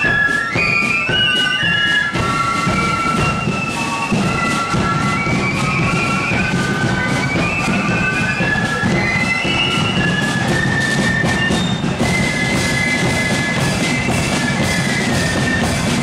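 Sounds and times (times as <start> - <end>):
flutes playing melody: 0.0 - 16.0
marching drums beat: 0.0 - 16.0.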